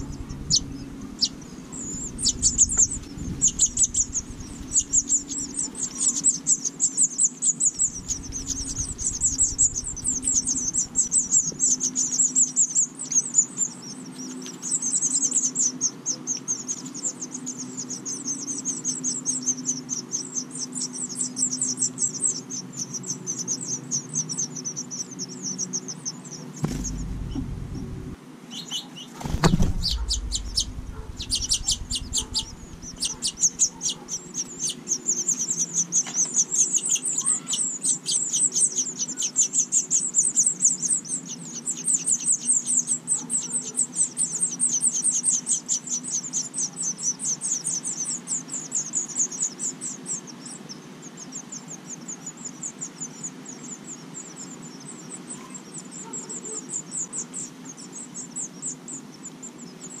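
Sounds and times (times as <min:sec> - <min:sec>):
nestlings begging with thin chirps: 0:00.0 - 1:00.0.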